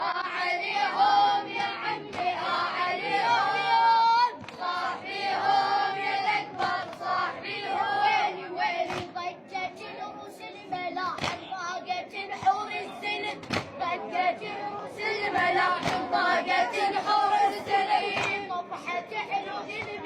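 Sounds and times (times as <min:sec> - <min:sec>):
boy singing: 0:00.0 - 0:20.0.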